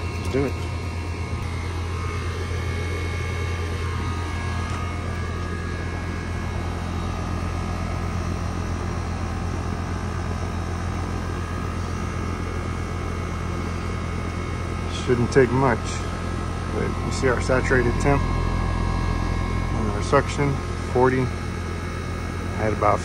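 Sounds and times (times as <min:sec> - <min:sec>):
air conditioner unit humming: 0:00.0 - 0:23.0.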